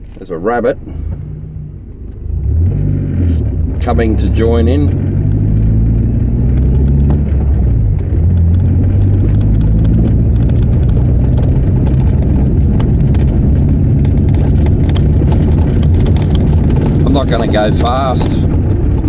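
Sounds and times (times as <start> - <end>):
car engine and tyre drone: 0.0 - 19.0.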